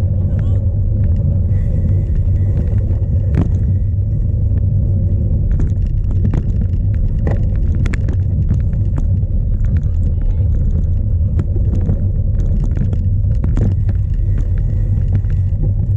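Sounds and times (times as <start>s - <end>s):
bike rumble over rough ground: 0.0s - 15.9s
wind buffeting microphone: 0.0s - 15.9s
bike knocks and rattles: 0.3s - 15.9s.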